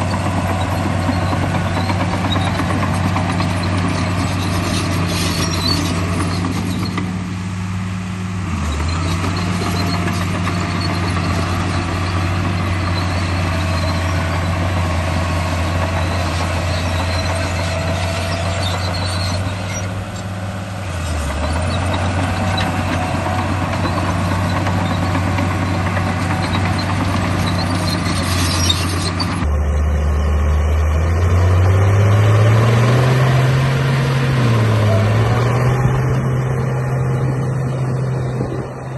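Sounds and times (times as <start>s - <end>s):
bulldozer engine idling: 0.0s - 38.9s.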